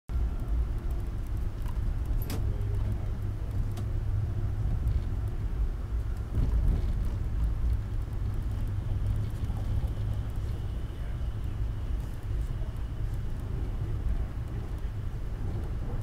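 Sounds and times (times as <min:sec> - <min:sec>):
train rumbling: 0:00.1 - 0:16.0.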